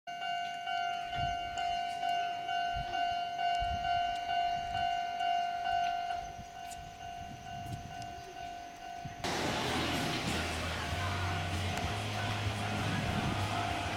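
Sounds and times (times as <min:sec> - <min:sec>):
level crossing warning bell: 0:00.1 - 0:13.8.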